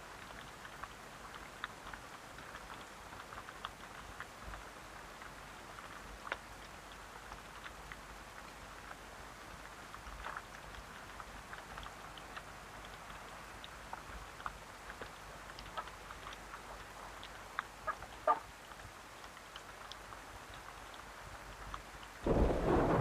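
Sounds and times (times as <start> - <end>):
raindrops ticking on a surface: 0.0 - 23.0
steady rain falling: 0.0 - 23.0.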